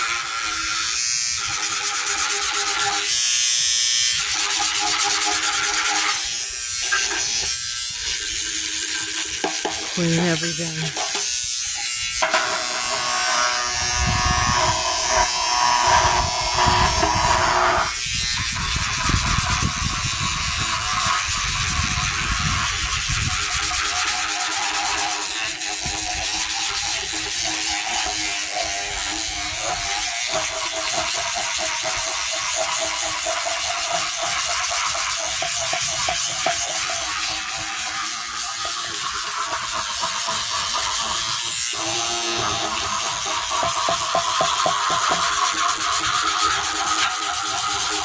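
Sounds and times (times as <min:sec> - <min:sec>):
toothbrush scrubbing metal dish: 0:04.1 - 0:13.0, 0:18.3 - 0:48.0.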